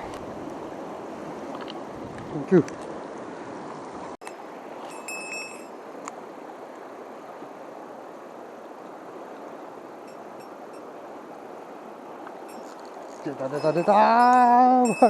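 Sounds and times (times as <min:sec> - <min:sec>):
mountain stream running: 0:00.0 - 0:15.0.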